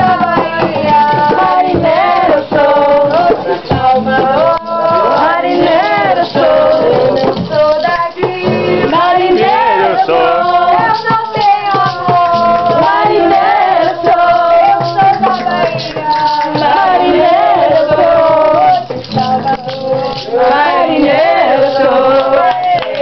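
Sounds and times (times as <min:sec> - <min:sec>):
acoustic guitar: 0:00.0 - 0:23.0
group of people singing: 0:00.0 - 0:23.0
shaker percussion: 0:00.0 - 0:23.0.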